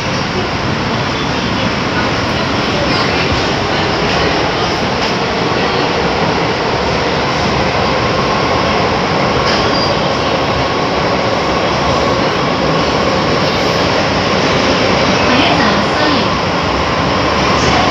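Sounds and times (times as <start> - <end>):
train wheels rumbling on track: 0.0 - 17.9.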